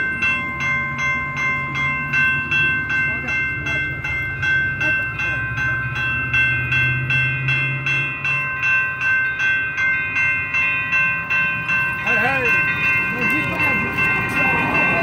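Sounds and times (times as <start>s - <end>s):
crossing bell ringing: 0.0s - 15.0s.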